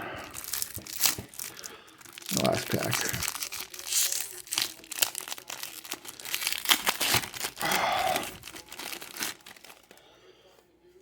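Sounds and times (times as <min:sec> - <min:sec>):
wax paper wrapper crinkling: 0:00.2 - 0:10.1.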